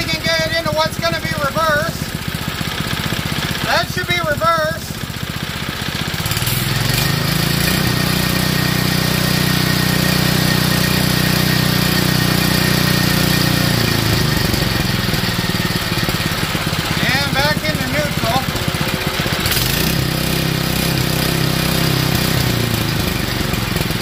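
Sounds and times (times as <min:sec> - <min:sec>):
small engine revving and idling: 0:00.0 - 0:24.0.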